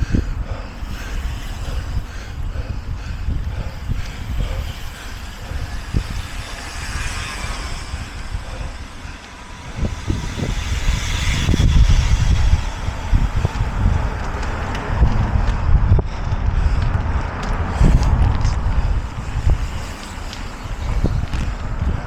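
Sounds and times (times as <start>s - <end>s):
road vehicle passing: 0.0s - 15.9s, 16.8s - 22.0s
wind rumbling on microphone: 0.0s - 22.0s.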